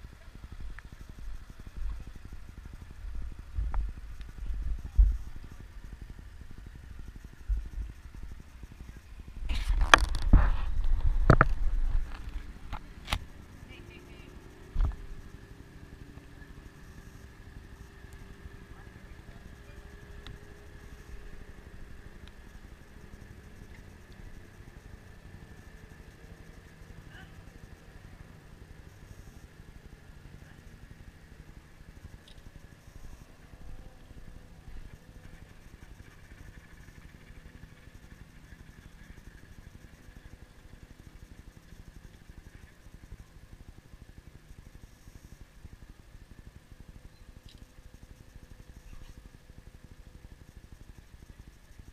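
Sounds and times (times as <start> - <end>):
outboard motors idling: 0.0 - 51.9.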